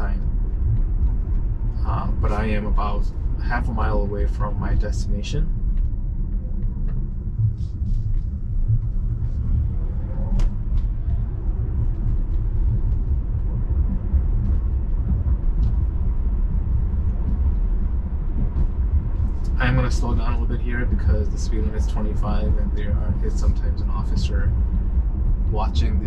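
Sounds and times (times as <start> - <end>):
tyre and road rumble in car: 0.0 - 26.0.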